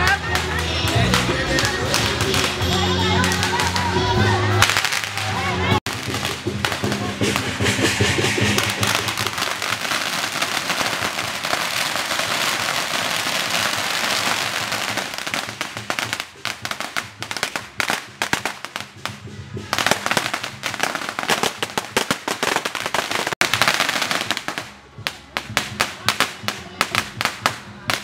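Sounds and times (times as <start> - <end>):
firecrackers crackling and popping: 0.0 - 28.0.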